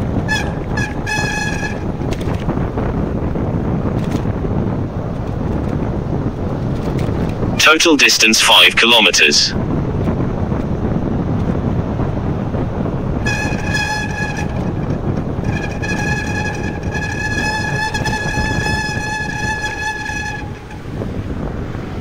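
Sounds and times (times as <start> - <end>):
wind rushing over microphone: 0.0 - 7.6, 9.5 - 22.0.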